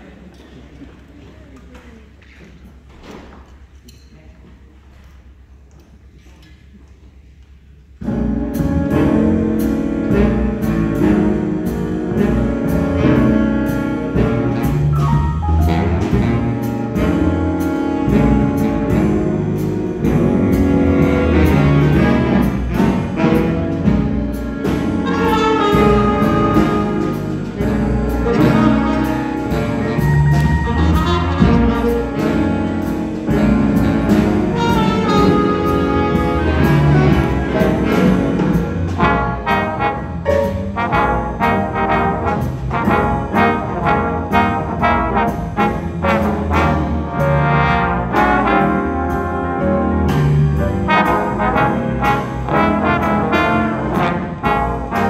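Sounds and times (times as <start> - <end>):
jazz band playing: 7.8 - 55.0.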